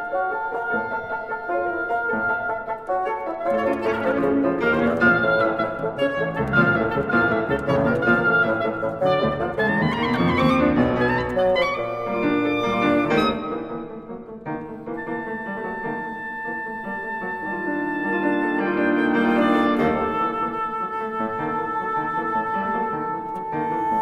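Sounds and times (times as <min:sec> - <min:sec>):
bassoon: 0:00.0 - 0:24.0
oboe: 0:00.0 - 0:24.0
piano: 0:00.0 - 0:24.0.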